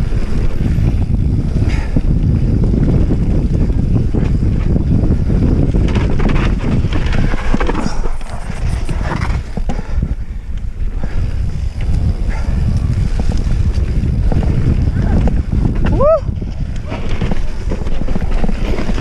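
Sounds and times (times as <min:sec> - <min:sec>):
bike rattling and knocking: 0:00.0 - 0:19.0
tyres running over dirt: 0:00.0 - 0:19.0
wind buffeting microphone: 0:00.0 - 0:19.0.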